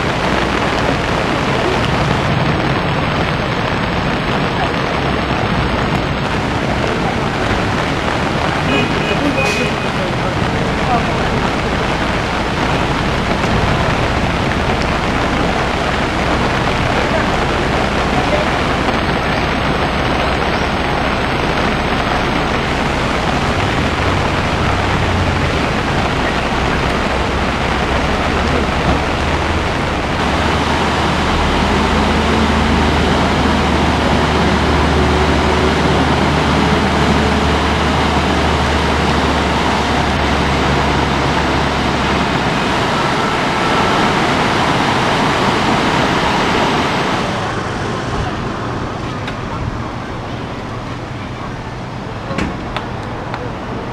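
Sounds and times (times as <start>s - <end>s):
stream rushing: 0.0s - 53.9s.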